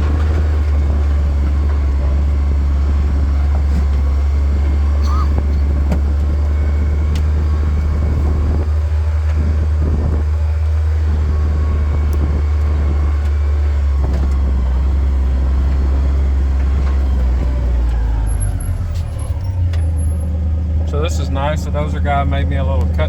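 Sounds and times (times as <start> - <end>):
low engine drone: 0.0 - 23.0
vehicle bumps and rattles: 0.0 - 23.0.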